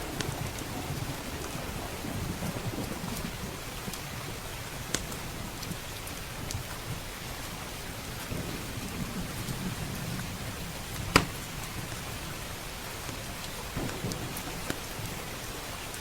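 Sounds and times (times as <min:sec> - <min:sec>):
wood fire crackling and popping: 0:00.0 - 0:07.0, 0:08.8 - 0:12.1, 0:13.1 - 0:16.0
low rumble of thunder: 0:00.0 - 0:16.0
steady rain hissing: 0:00.0 - 0:16.0.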